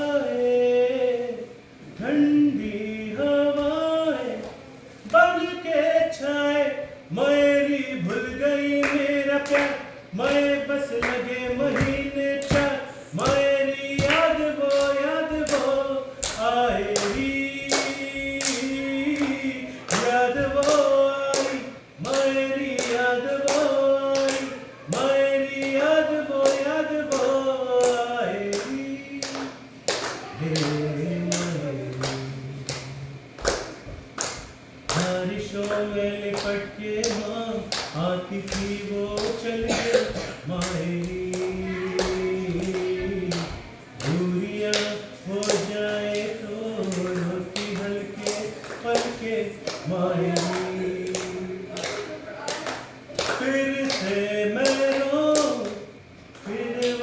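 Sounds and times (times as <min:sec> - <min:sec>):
lower voice singing: 0:00.0 - 0:33.9, 0:34.8 - 0:57.0
people singing together: 0:05.3 - 0:34.0, 0:34.8 - 0:57.0
hand claps: 0:08.8 - 0:57.0.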